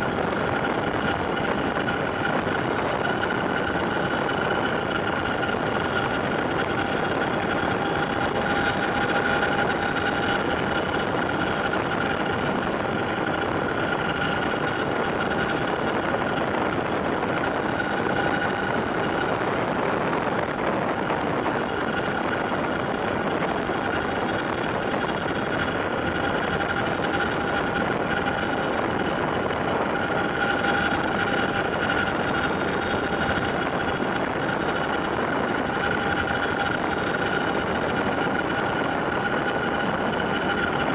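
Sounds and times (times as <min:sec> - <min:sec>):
helicopter engines and rotors din: 0:00.0 - 0:40.9.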